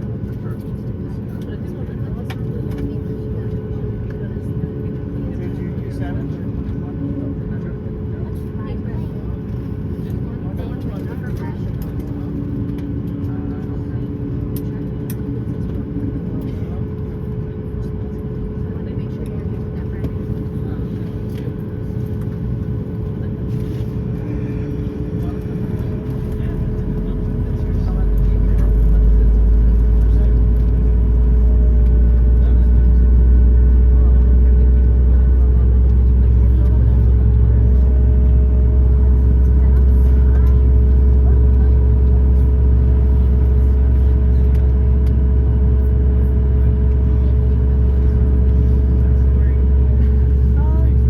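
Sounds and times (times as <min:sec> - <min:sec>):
aircraft cabin rumble: 0:00.0 - 0:51.0
constant hum: 0:00.0 - 0:51.0.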